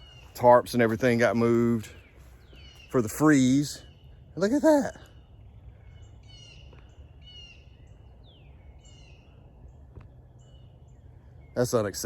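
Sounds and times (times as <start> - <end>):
bird calling: 0.0 - 12.0
faint low background rumble: 0.0 - 12.0.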